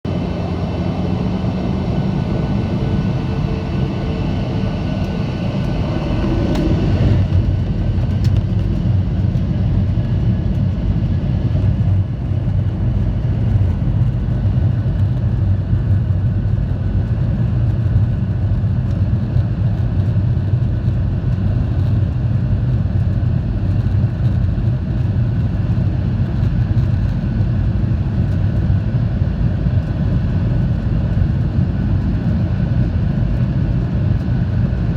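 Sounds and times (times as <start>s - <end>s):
jet engine drone: 0.1s - 34.9s.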